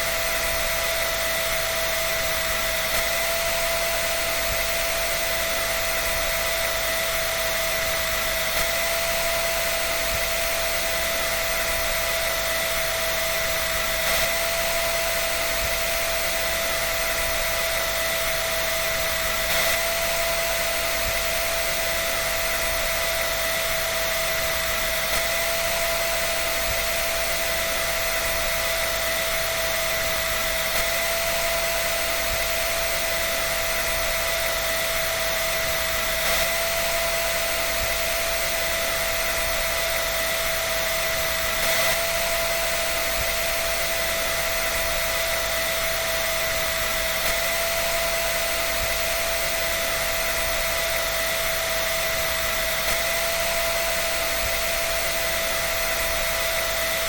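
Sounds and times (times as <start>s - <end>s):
dryer running with whine: 0.0s - 57.0s.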